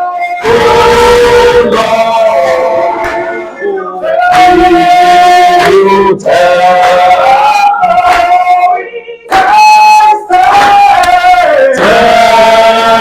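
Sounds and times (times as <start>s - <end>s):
person singing worship song: 0.0s - 13.0s.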